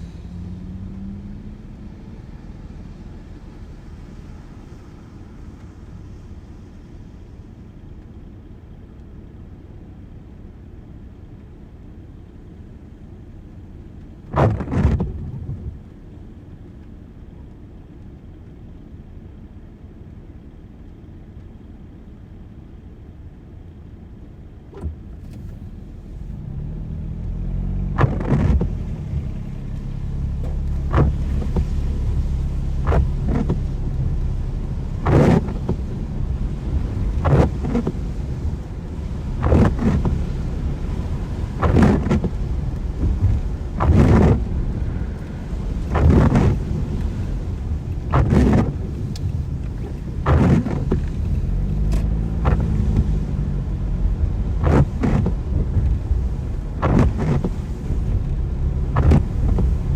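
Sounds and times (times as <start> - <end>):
car engine and tyre noise: 0.0 - 59.9
rain on a car: 0.0 - 59.9
windscreen wipers sweeping: 0.0 - 59.9.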